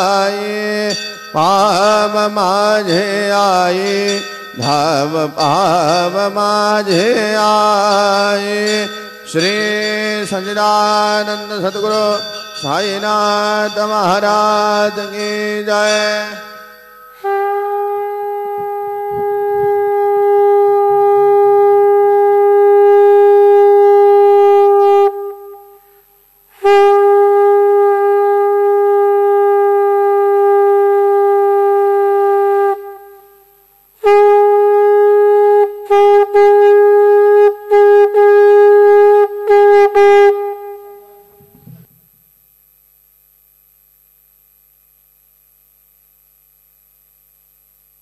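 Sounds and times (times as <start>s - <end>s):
conch shell blasts: 0.0s - 42.1s.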